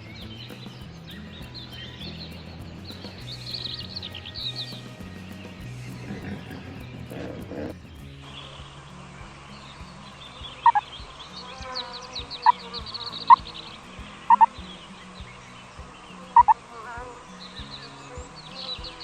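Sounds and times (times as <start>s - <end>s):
small bird chirping rapidly: 0.0s - 19.0s.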